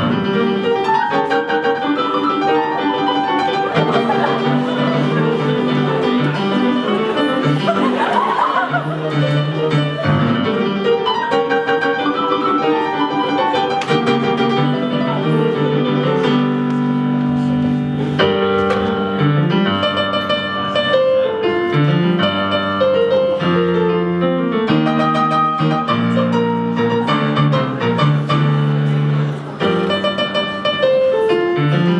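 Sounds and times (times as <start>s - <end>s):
instrumental piano music: 0.0s - 31.9s.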